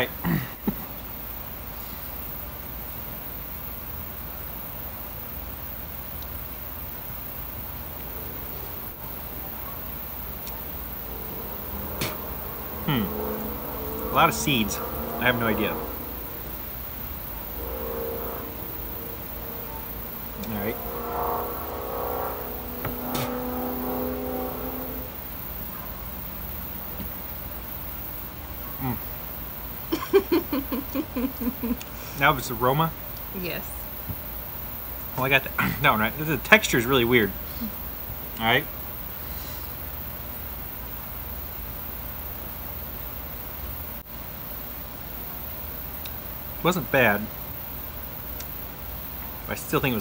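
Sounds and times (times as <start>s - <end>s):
mechanical hum: 0.0s - 50.0s.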